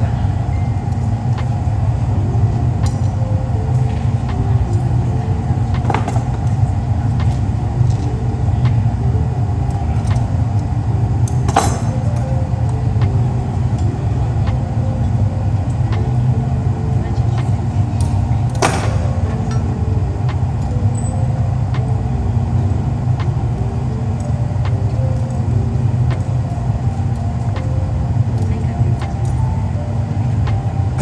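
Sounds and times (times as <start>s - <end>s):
furnace low hum: 0.0s - 31.0s.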